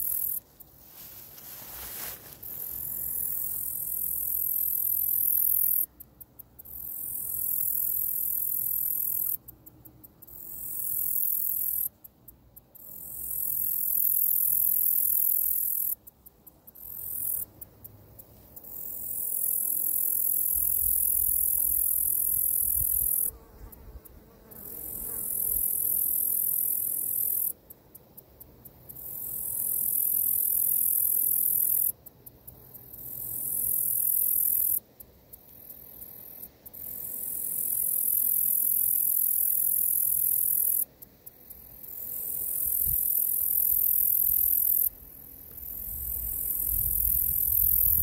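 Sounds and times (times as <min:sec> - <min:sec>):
katydid ticks: 0:00.0 - 0:01.6, 0:02.4 - 0:48.0.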